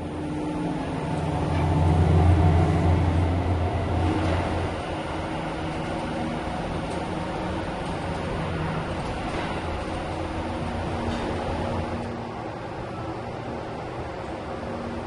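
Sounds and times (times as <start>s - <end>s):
train rumbling with hum: 0.0s - 15.0s.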